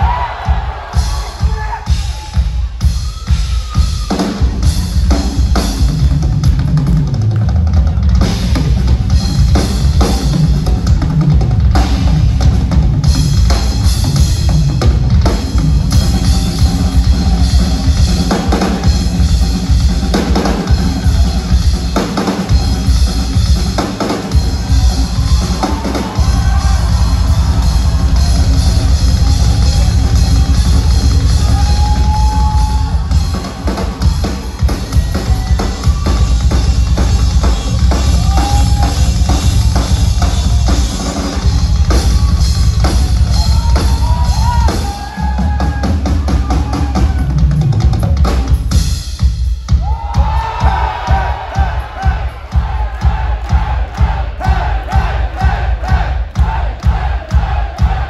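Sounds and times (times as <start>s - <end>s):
drum kit solo: 0.0s - 58.0s.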